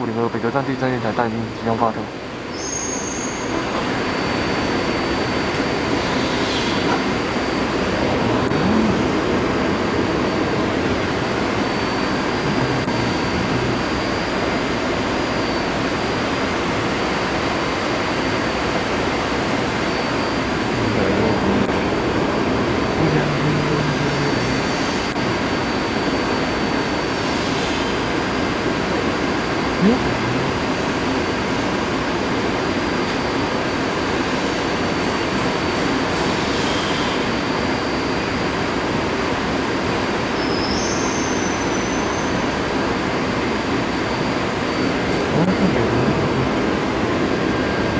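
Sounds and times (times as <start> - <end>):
high motor whine: 0.0 - 47.9
metro train rumbling: 0.0 - 47.9.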